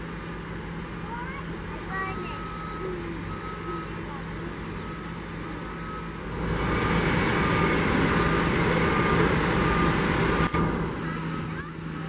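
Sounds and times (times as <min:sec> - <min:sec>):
heavy diesel engines under load: 0:00.0 - 0:12.0
reversing alarm beeping: 0:01.9 - 0:12.0.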